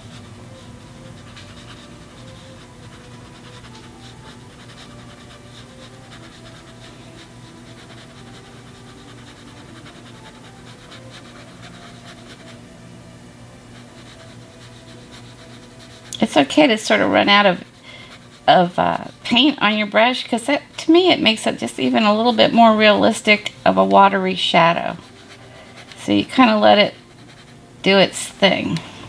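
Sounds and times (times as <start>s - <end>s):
brush scratching on canvas: 0.0s - 12.6s, 13.7s - 23.9s, 24.6s - 27.6s
low room hum: 0.0s - 29.0s.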